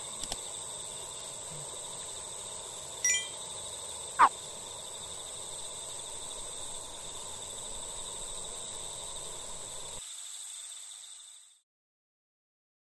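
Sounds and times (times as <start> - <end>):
insects trilling: 0.0 - 11.6.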